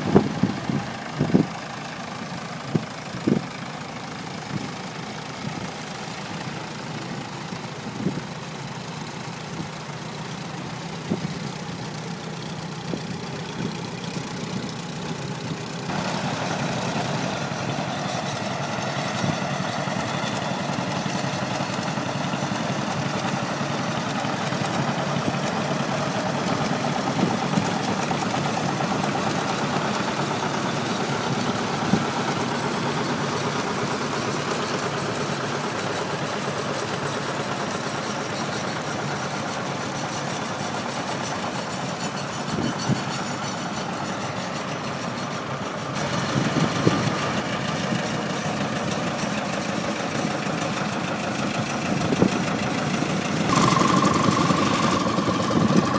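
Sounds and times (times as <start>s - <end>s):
tractor engines running: 0.0s - 55.9s.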